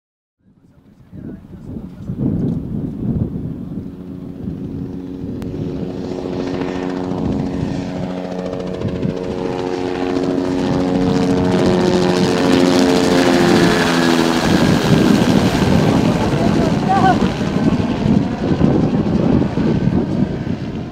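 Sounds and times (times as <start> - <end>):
helicopter passing overhead: 0.4 - 20.9.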